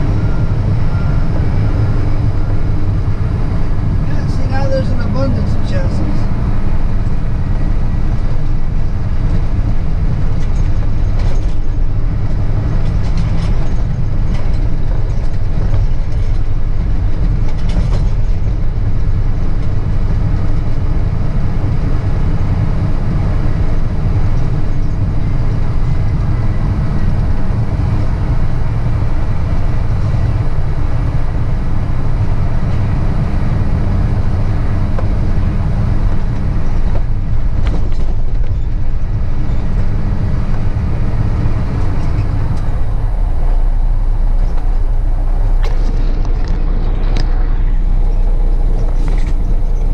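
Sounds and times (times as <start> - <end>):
truck diesel engine rumbling: 0.0 - 49.9.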